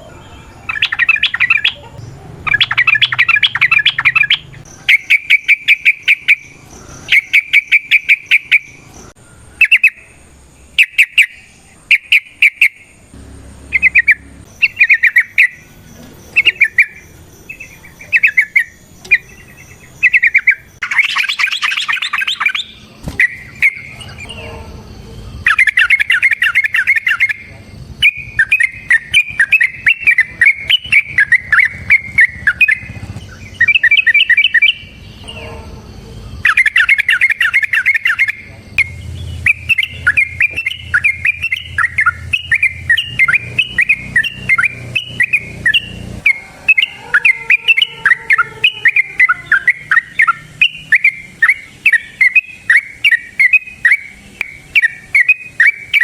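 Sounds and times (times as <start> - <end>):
bird singing rattling phrases: 0.0 - 56.0.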